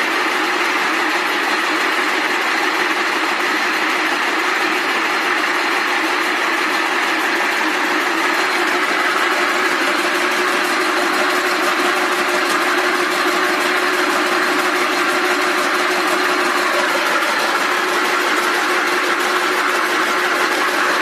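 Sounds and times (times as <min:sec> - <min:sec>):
machine hum: 0:00.0 - 0:21.0
braiding machine rattling: 0:00.6 - 0:21.0.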